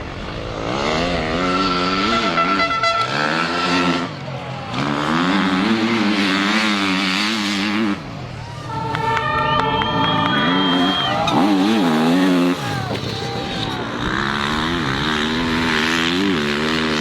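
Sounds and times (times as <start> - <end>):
dirt bike engine revving: 0.0 - 8.8, 9.8 - 17.0.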